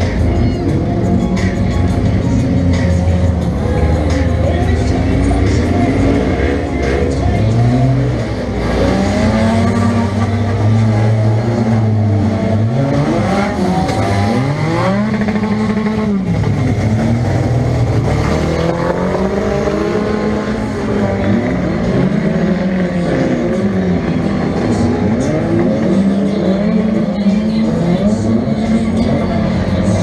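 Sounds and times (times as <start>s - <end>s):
car engine revving: 0.0s - 30.0s
other engines revving: 0.0s - 30.0s.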